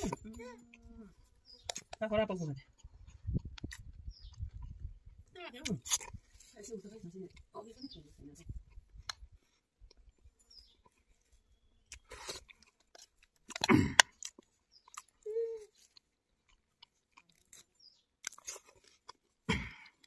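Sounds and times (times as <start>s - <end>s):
person chewing food: 0.0s - 2.0s, 2.6s - 7.8s, 8.4s - 20.0s.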